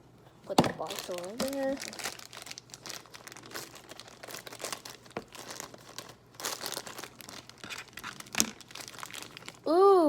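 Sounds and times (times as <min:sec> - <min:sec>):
plastic packaging crinkling and tearing: 0:00.7 - 0:09.7.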